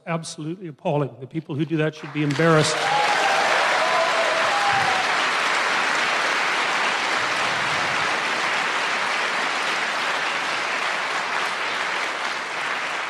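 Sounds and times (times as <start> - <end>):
audience applauding: 2.0 - 13.0.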